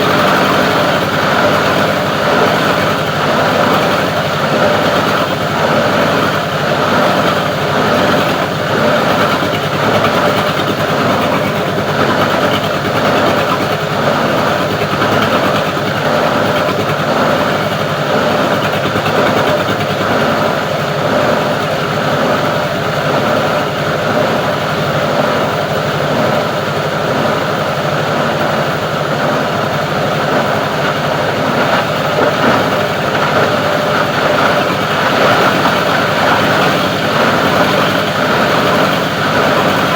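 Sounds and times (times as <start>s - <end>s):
grinding machine drone: 0.0s - 39.9s.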